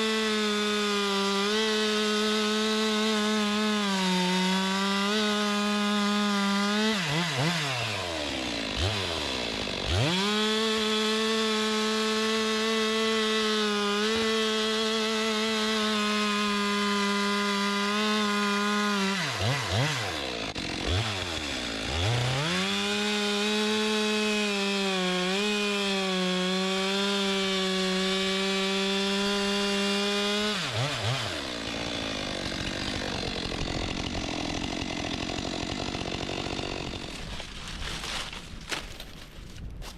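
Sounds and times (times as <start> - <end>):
chainsaw cutting a log: 0.0 - 39.1.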